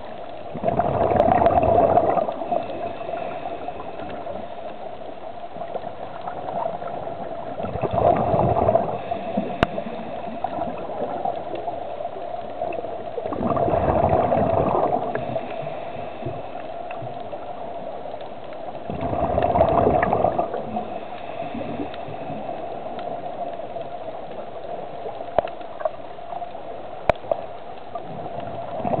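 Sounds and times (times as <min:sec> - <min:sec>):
steady hum: 0:00.0 - 0:29.0
underwater bubbles gurgling: 0:00.0 - 0:29.0.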